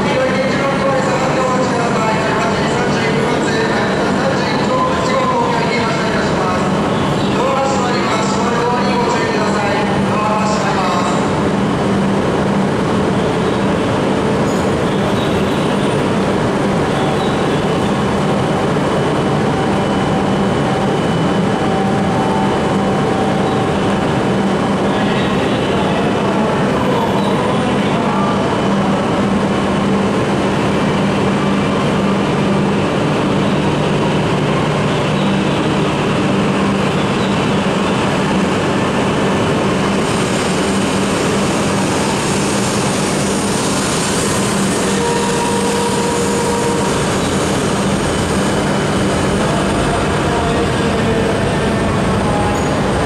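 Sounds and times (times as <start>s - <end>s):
electric train hum: 0.0s - 53.0s.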